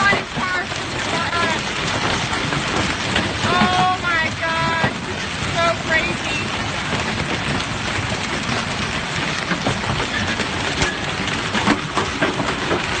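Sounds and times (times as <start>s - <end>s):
dense hiss of falling hail: 0.0s - 13.0s
hailstones knocking hard surfaces: 0.0s - 13.0s.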